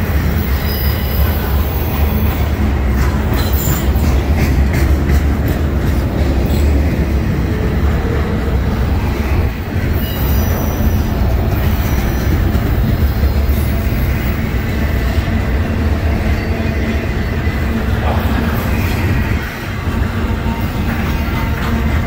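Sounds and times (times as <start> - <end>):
freight train wheels rumbling on rails: 0.0 - 22.0.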